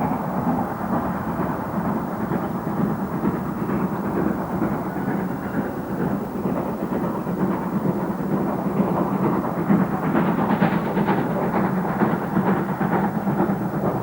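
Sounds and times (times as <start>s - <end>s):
steam locomotive working hard: 0.0s - 14.0s.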